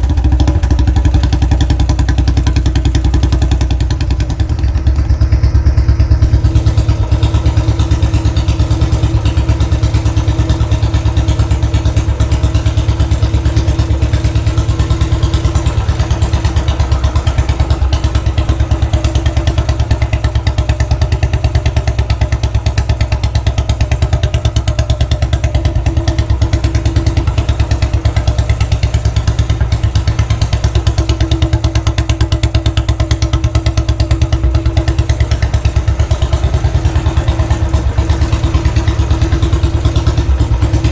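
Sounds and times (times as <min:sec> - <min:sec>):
motorcycle engine thumping: 0:00.0 - 0:40.9.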